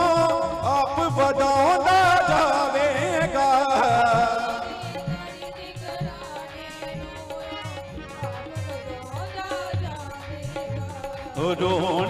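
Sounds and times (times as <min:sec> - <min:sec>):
hand drum beat: 0:00.0 - 0:12.0.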